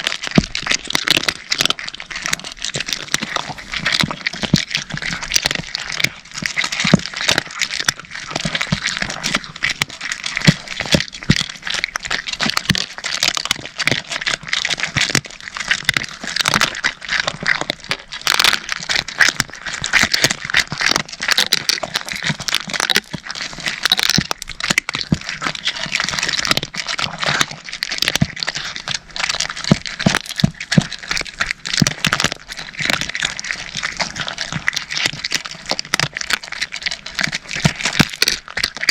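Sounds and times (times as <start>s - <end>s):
cats crunching dry kibble: 0.0s - 38.9s.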